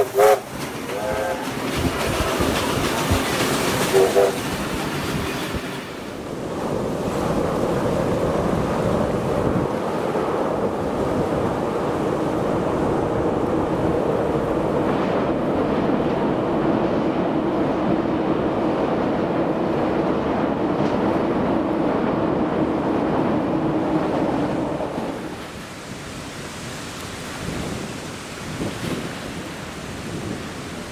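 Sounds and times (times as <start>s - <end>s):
train crossing bridge rumble: 0.0s - 30.9s
wind noise on microphone: 0.0s - 30.9s.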